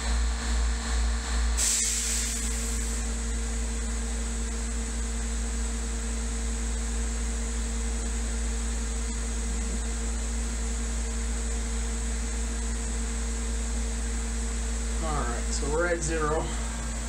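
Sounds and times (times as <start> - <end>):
milling machine idling hum: 0.0 - 17.0.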